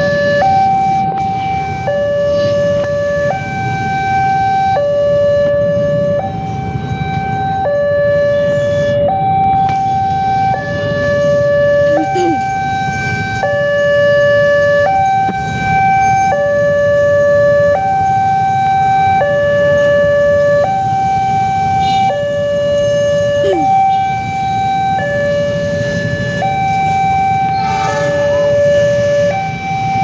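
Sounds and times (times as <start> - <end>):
two-tone level crossing siren: 0.0 - 30.0.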